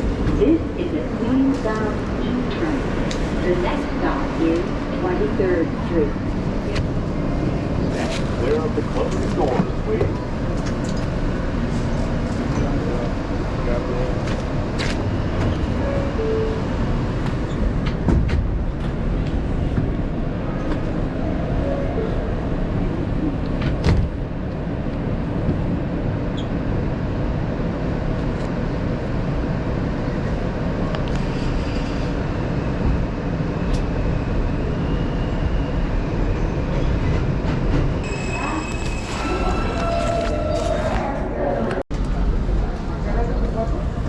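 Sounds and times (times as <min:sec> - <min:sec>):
train wheels rumbling on track: 0:00.0 - 0:41.1.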